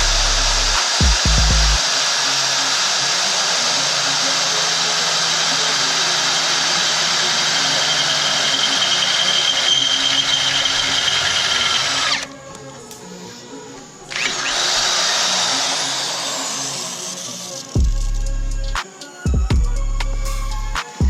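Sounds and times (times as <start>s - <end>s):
electric drill boring metal: 0.0s - 21.0s.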